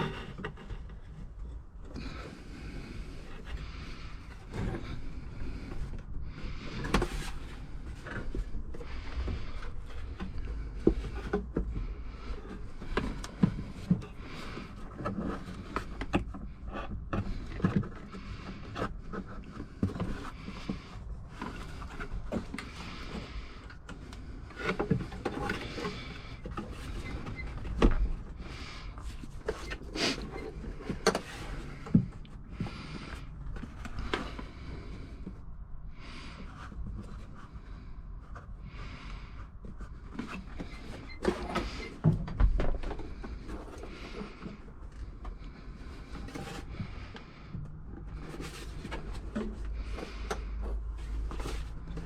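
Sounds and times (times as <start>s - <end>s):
knocks and rattles of handling: 0.0s - 35.4s, 36.2s - 52.0s.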